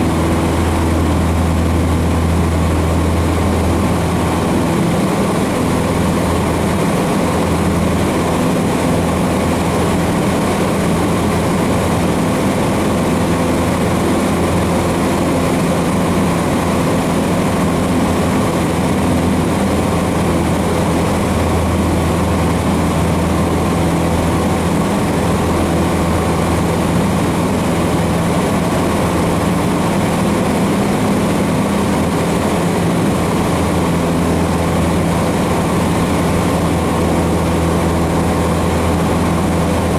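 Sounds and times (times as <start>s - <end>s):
airplane engine at full power: 0.0s - 39.9s.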